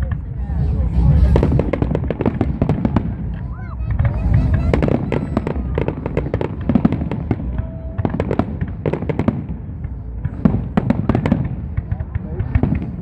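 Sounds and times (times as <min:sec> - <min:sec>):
fireworks bangs and cracks: 0:00.0 - 0:13.0
steady low rumble: 0:00.0 - 0:13.0.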